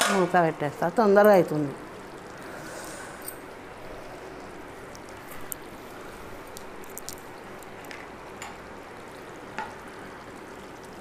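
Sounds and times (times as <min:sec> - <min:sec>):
boiling pot hissing: 0:00.6 - 0:11.0.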